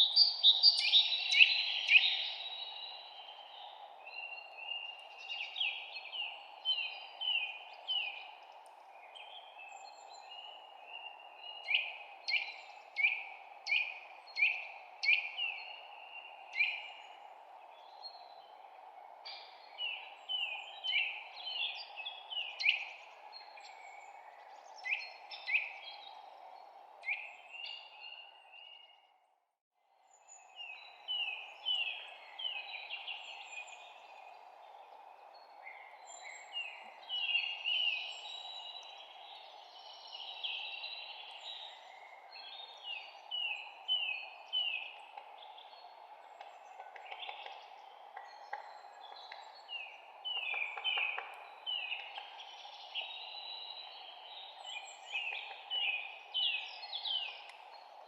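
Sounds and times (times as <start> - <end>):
songbirds chirping: 0.0 - 29.3, 29.9 - 58.0.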